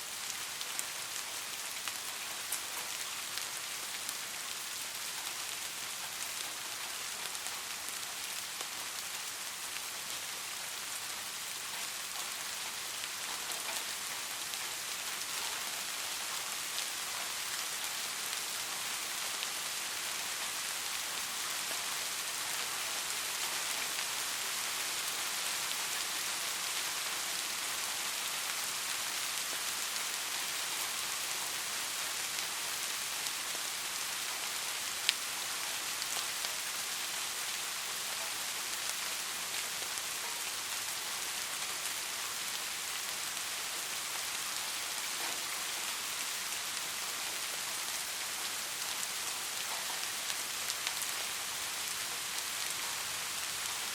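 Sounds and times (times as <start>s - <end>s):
steady rain on a street: 0.0s - 53.9s.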